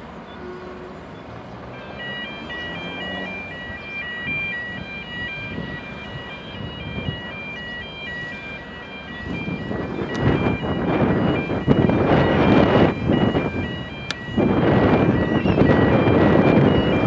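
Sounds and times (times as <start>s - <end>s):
low rumble of engines: 0.0s - 17.0s
electronic warning beeper: 1.1s - 17.0s.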